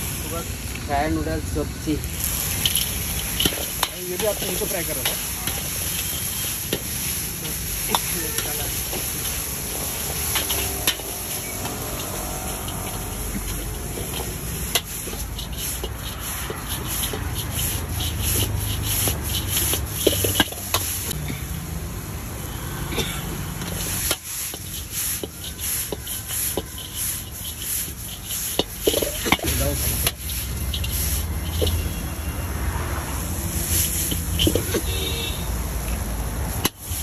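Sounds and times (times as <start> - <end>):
noodles sizzling in a wok: 0.0 - 22.8, 23.4 - 37.0
ladle scraping and knocking wok: 2.2 - 21.2, 23.5 - 32.3, 33.3 - 35.4.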